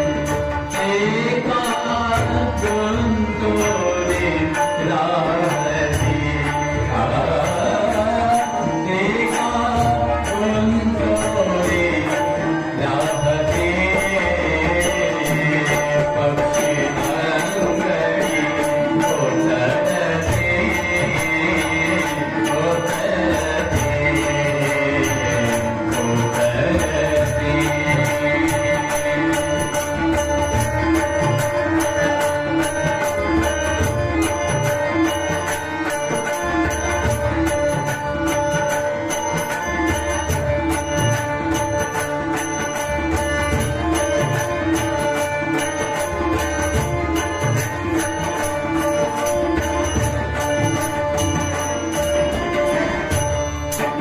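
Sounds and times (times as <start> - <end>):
small ringing cymbals: 0.0 - 54.0
sustained devotional melody: 0.0 - 54.0.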